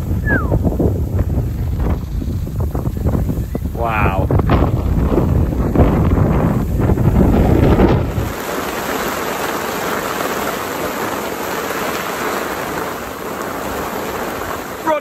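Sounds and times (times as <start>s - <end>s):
heavy rain falling: 0.0s - 15.0s
wind buffeting microphone: 0.0s - 15.0s.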